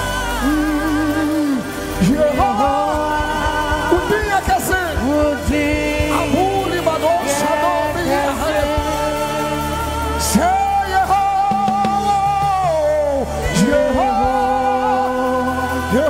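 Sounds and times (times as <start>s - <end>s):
man and women singing gospel: 0.0s - 16.0s.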